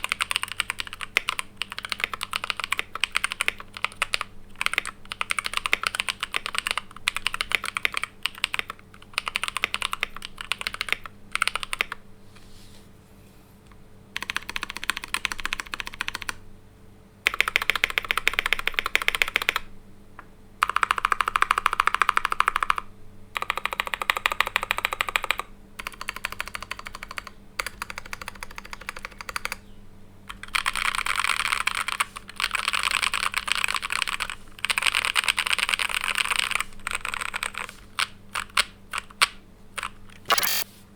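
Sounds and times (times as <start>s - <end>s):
fast typing on mechanical keyboard: 0.0s - 12.0s, 14.2s - 16.4s, 17.3s - 19.6s, 20.6s - 29.6s, 30.3s - 40.6s.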